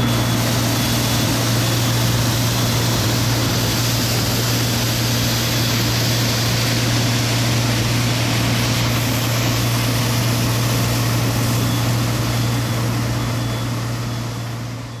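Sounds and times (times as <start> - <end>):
milling machine cutting asphalt: 0.0 - 15.0
truck diesel engine: 0.0 - 15.0.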